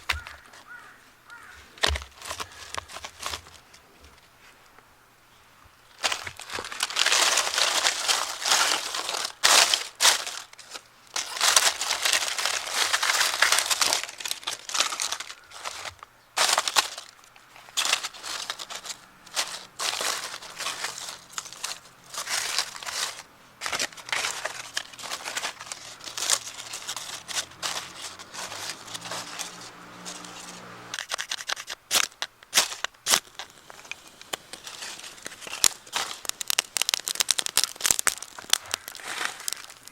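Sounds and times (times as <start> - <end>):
crinkling and rustling: 0.0 - 4.9, 5.9 - 39.9.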